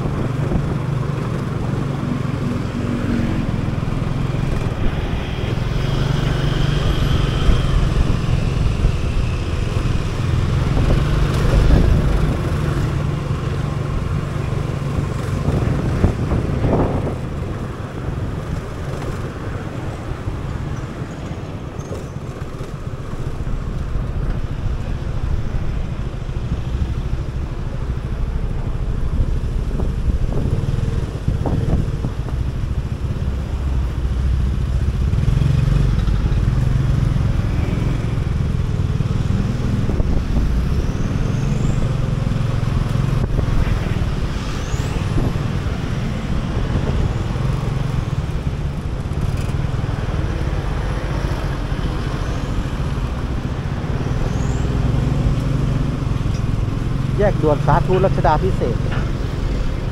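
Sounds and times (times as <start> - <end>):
passing cars and motorbikes: 0.0 - 59.9.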